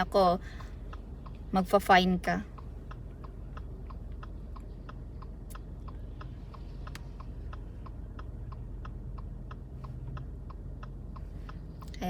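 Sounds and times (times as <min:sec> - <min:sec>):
car cabin rumble: 0:00.0 - 0:12.0
turn signal ticking: 0:00.0 - 0:12.0.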